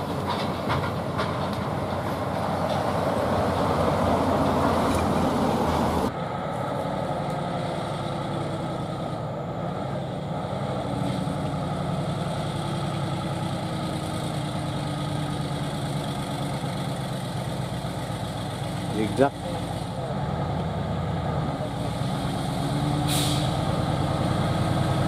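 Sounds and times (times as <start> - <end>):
diesel truck engine running: 0.0 - 25.0
heavy traffic noise: 0.0 - 25.0.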